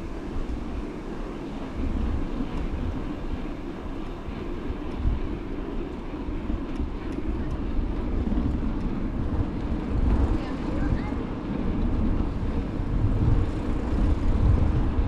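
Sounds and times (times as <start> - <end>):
bicycle tyres rolling on asphalt: 0.0 - 15.0
wind buffeting microphone: 0.0 - 15.0.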